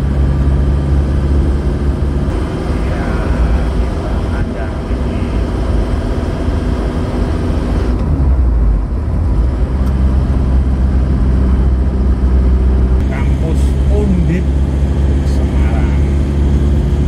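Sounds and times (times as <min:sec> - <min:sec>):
diesel engine and road noise: 0:00.0 - 0:17.0.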